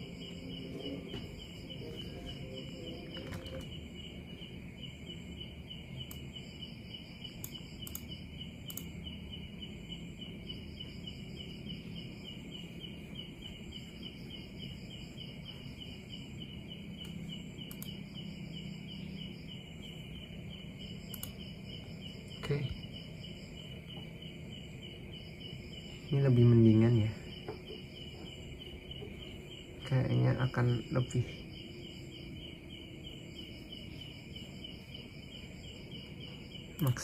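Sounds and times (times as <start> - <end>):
crickets chirping: 0.0 - 37.0
high insect trill: 0.0 - 37.0
low hum: 0.0 - 37.0.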